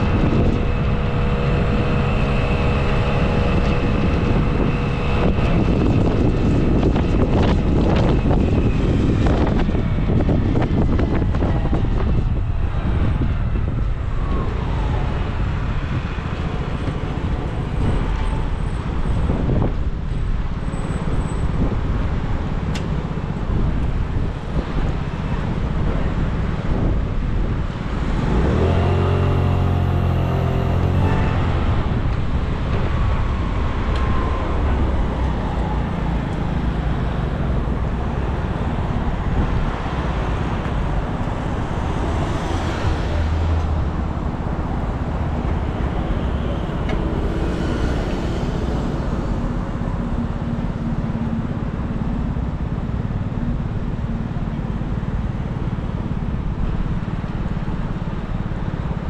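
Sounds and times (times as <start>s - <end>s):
road traffic: 0.0s - 59.0s
vehicle engine hum: 0.0s - 59.0s.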